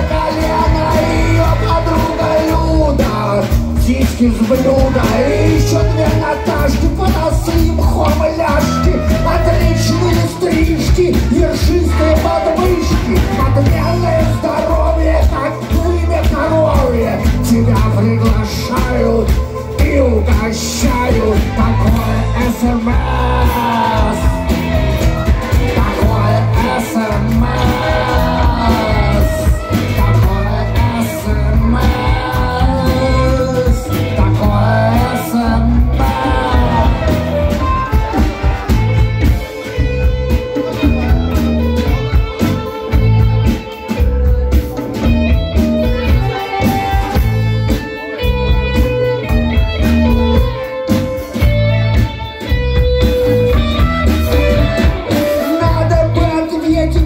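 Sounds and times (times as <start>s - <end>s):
bass: 0.0s - 57.0s
drums: 0.0s - 57.0s
electric guitar: 0.0s - 57.0s.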